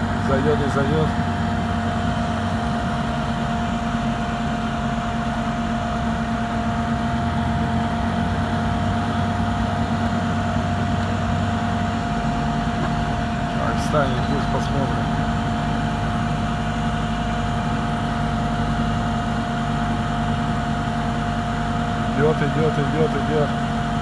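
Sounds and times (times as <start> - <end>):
heavy vehicle engine under load: 0.0 - 24.0.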